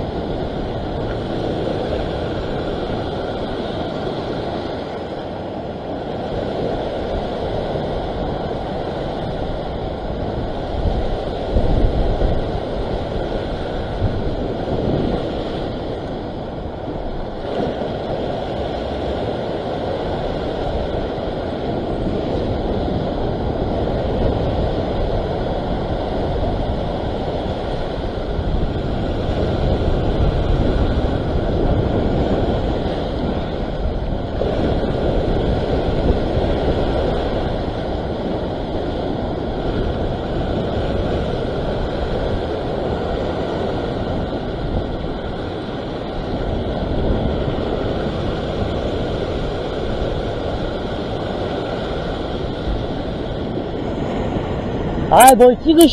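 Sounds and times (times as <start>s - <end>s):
ocean surf over rocks: 0.0s - 55.9s
wind buffeting microphone: 0.0s - 55.9s.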